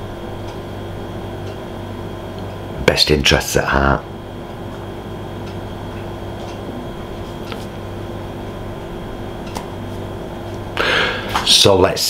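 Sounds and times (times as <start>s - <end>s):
faint high whine: 0.0s - 12.0s
low hum and hiss: 0.0s - 12.0s.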